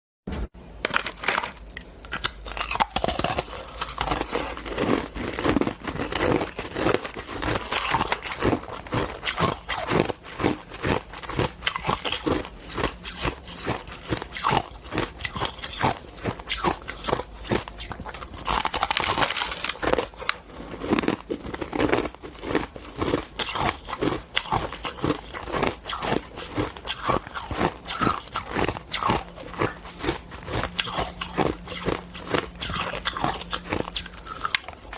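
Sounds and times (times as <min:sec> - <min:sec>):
person chewing ice: 0:00.9 - 0:34.9.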